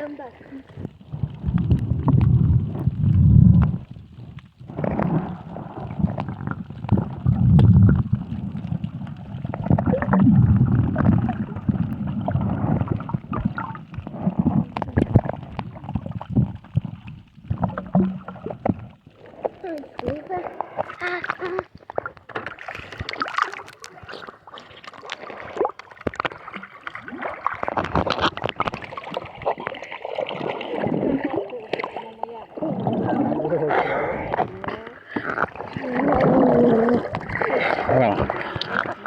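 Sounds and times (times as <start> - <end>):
water sloshing and splashing: 0.0 - 39.0.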